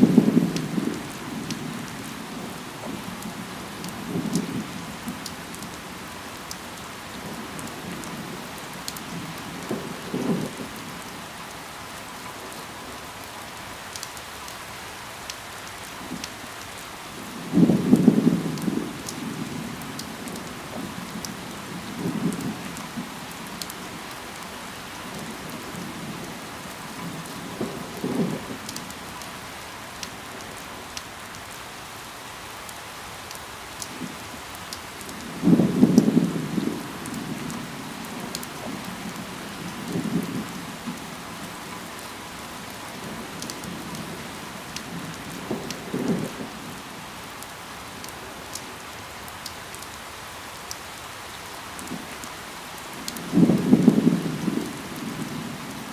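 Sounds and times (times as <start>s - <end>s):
rain on leaves and ground: 0.0s - 55.9s.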